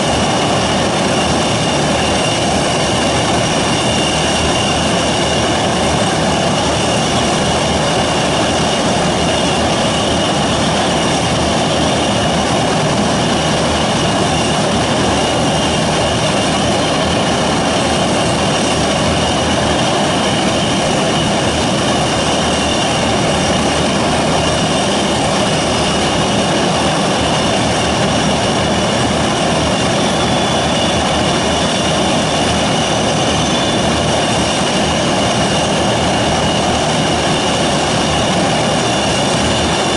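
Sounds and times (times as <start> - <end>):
high engine whine: 0.0 - 39.9
turboprop engines roaring: 0.0 - 39.9.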